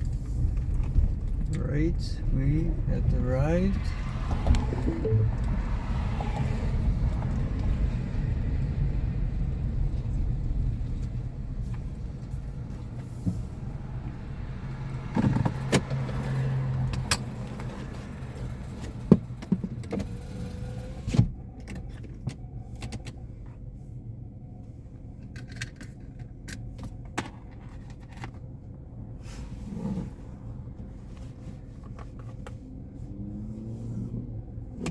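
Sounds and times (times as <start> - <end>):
car engine rumble: 0.0 - 34.9.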